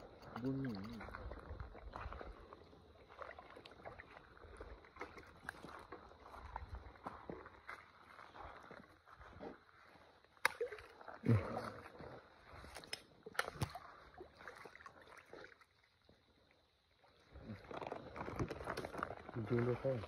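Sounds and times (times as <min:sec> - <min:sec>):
splashing in shallow muddy water: 0:00.0 - 0:20.0.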